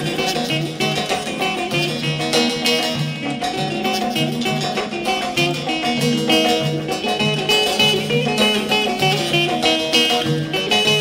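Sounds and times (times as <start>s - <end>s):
plucked strings over a beat: 0.0s - 11.0s.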